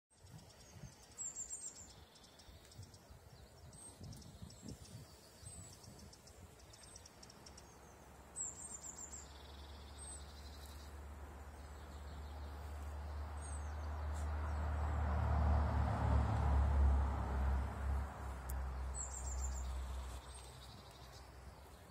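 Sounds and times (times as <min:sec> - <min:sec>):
small birds chirping: 0:00.1 - 0:15.0, 0:18.2 - 0:21.9.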